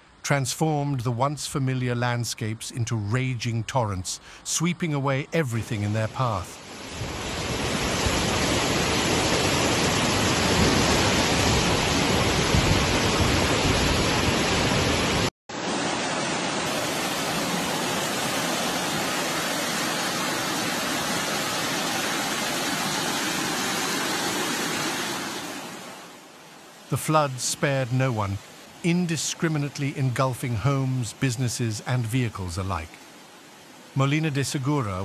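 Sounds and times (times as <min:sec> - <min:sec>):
floodwater rushing: 0:04.2 - 0:35.0.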